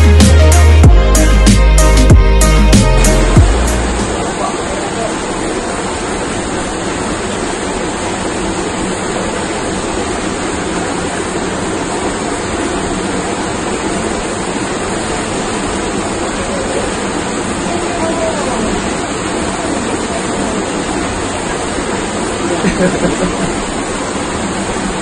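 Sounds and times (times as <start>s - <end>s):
stream rushing over rocks: 3.2s - 25.0s.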